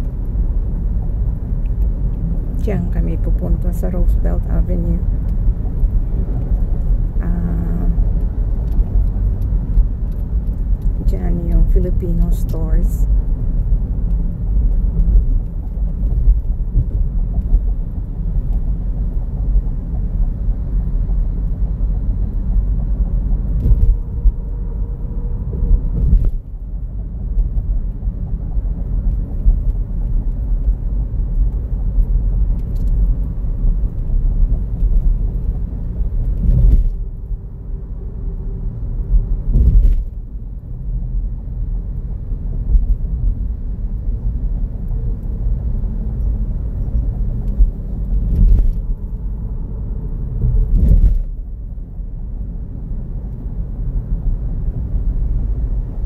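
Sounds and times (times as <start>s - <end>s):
car road and wind rumble: 0.0s - 56.0s.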